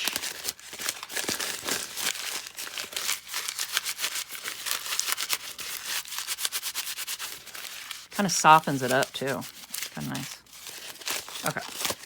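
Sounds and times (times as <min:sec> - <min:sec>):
paper bag crumpling: 0:00.0 - 0:12.0.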